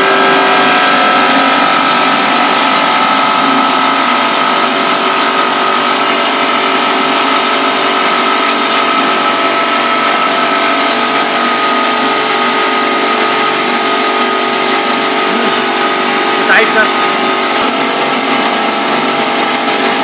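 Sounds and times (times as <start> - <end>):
feed grinder machine whirring: 0.0 - 20.0.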